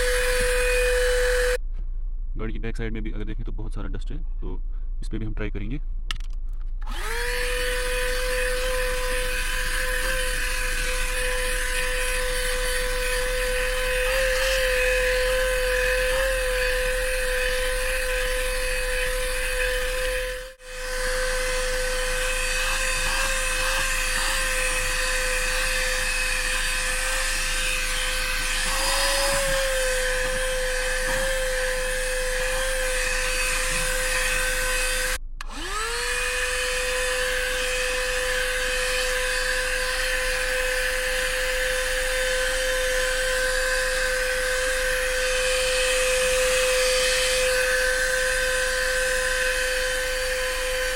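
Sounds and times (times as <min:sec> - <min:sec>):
handheld vacuum cleaner whine: 0:00.0 - 0:01.6, 0:06.8 - 0:50.9.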